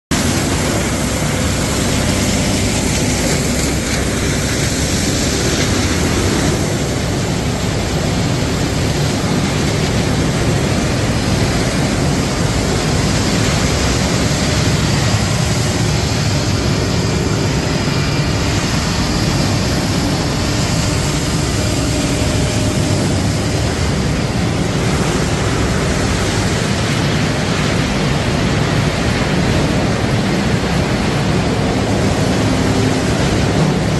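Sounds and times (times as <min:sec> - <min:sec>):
wood-processing machinery running: 0:00.1 - 0:33.9.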